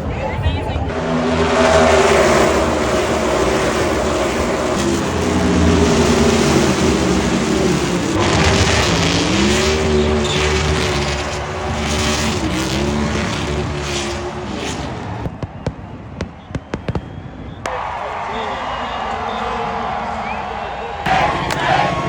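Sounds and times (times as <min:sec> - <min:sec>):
race car engines: 0:00.0 - 0:22.0.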